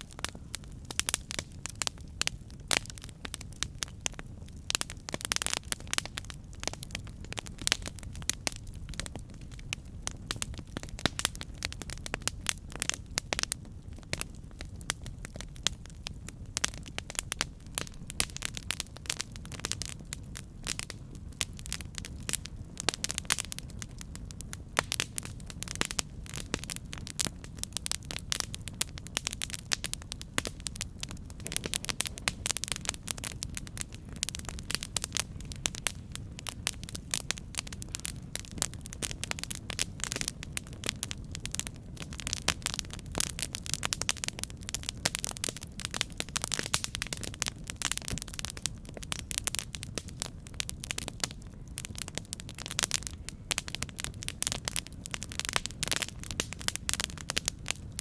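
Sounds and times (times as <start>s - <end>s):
campfire crackling: 0.0s - 58.0s
low rush of flame: 0.0s - 58.0s.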